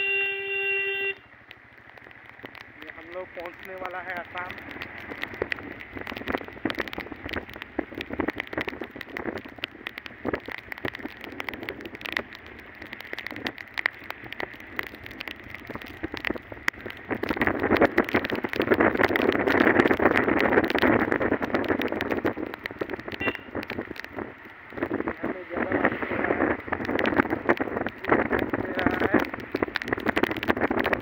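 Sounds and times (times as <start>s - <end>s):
riding on wet road: 0.0s - 31.0s
rain patter on raincoat: 0.2s - 31.0s.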